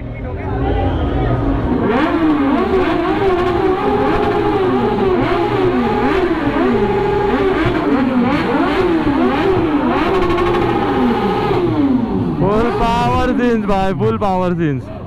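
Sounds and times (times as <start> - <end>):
motorbike engines revving: 0.0 - 15.0.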